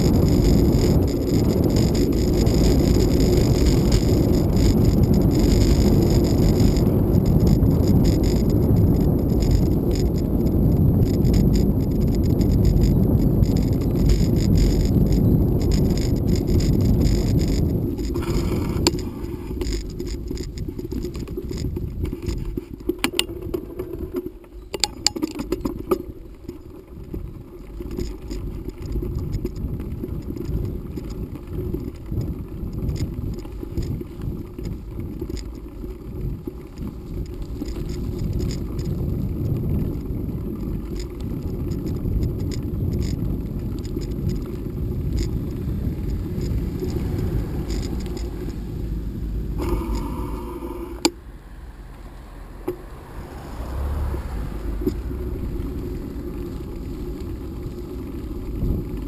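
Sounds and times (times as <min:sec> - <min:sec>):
bike rattling over bumps: 0:00.0 - 0:51.3, 0:51.9 - 0:59.0
bicycle tyres rumbling on dirt: 0:00.0 - 0:59.0.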